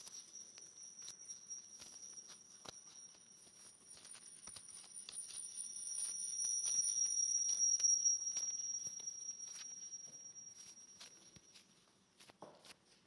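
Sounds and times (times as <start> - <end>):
high-pitched feedback whistle: 0.0 - 11.6.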